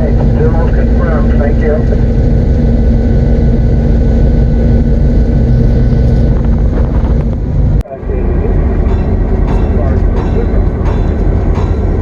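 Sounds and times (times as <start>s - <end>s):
diesel locomotive engine running: 0.0s - 12.0s
wind on microphone: 0.0s - 12.0s.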